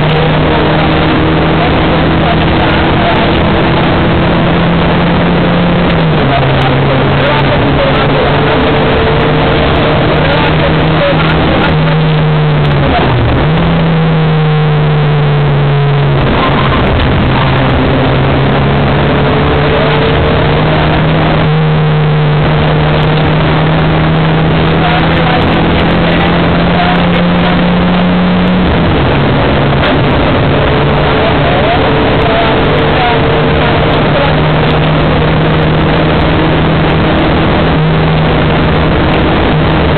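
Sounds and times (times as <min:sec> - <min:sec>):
rally car engine at high revs: 0:00.0 - 0:39.9.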